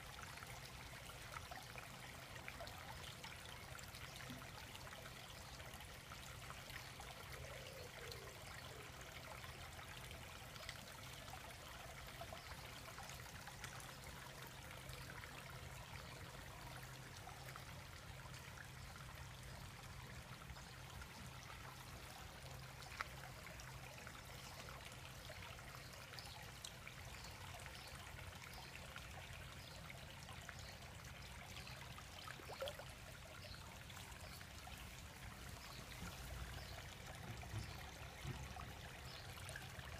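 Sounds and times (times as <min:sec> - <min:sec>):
water trickling in pond: 0:00.0 - 0:39.9.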